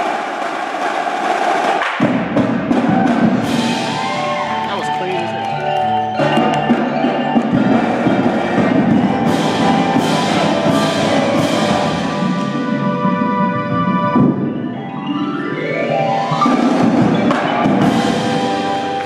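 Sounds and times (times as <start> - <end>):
drumline playing: 0.0 - 19.0
mallet keyboard percussion: 3.2 - 19.0.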